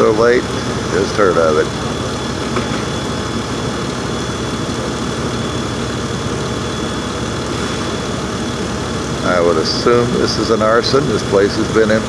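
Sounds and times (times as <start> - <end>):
engine running steadily: 0.0 - 12.0
faint high whine: 0.0 - 12.0.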